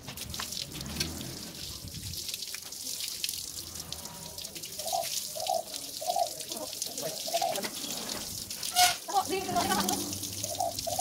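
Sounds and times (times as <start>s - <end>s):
hose water spraying: 0.0s - 11.0s.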